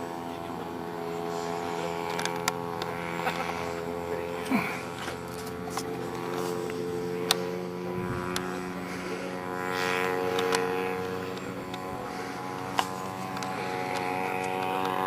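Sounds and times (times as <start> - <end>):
model plane engine droning: 0.0 - 15.0.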